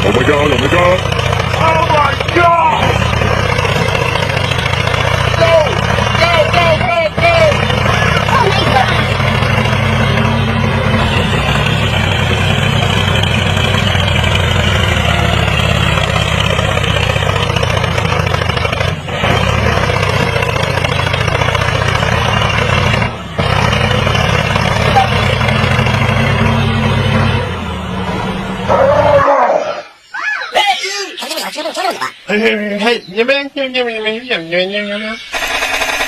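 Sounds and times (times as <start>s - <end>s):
engine running steadily: 0.0s - 29.1s, 35.1s - 36.0s.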